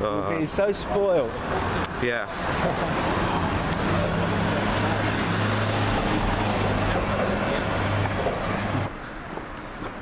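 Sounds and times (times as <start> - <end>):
street traffic noise: 0.0 - 10.0.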